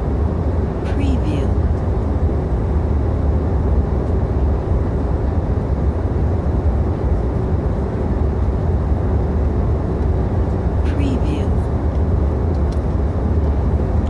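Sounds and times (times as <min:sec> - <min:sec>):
airliner engine and airflow rumble: 0:00.0 - 0:14.0
faint steady hum: 0:00.0 - 0:14.0.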